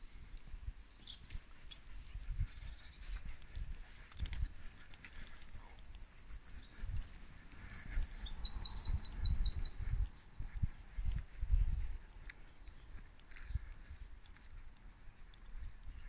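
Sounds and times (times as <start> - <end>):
songbird singing: 0.6 - 11.4, 12.0 - 16.0.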